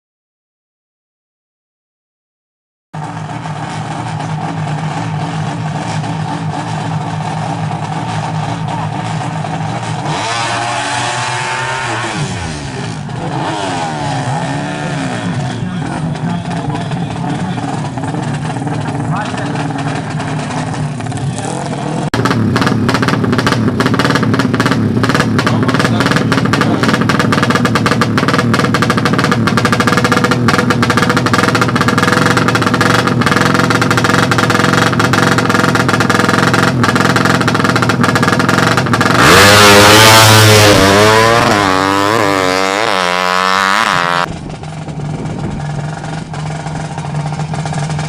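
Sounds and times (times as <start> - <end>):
motorcycle revving and accelerating: 3.0 - 48.0.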